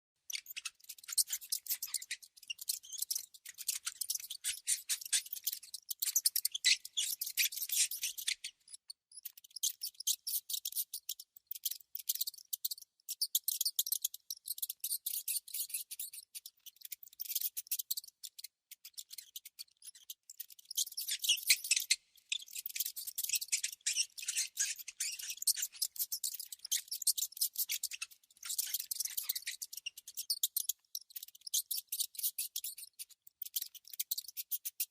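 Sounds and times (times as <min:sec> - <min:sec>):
mouse squeaking and clicking: 0:00.2 - 0:34.9.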